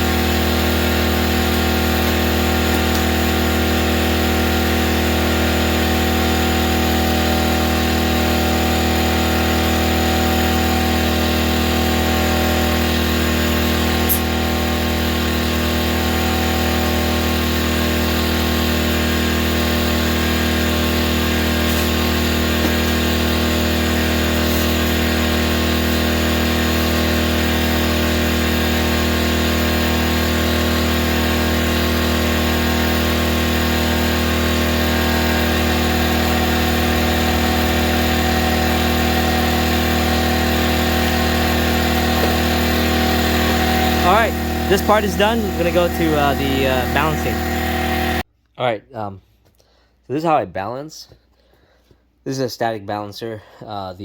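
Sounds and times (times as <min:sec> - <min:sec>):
air compressor humming: 0:00.0 - 0:48.3.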